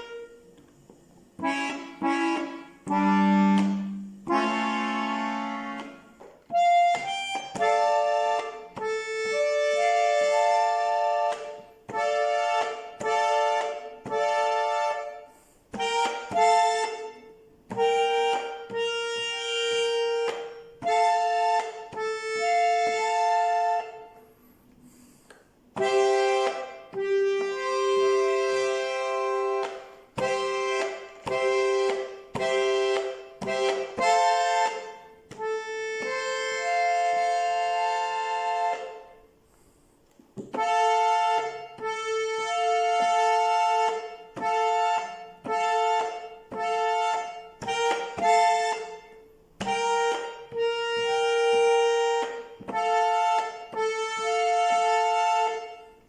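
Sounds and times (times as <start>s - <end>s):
button accordion melody: 0.0s - 56.0s.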